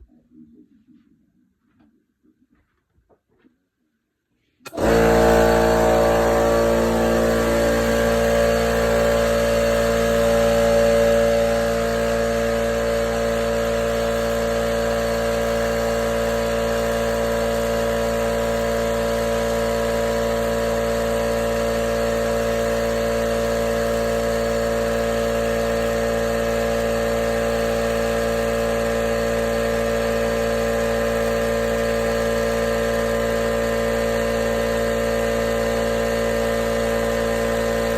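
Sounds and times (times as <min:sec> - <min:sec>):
air compressor running: 0:04.6 - 0:37.9.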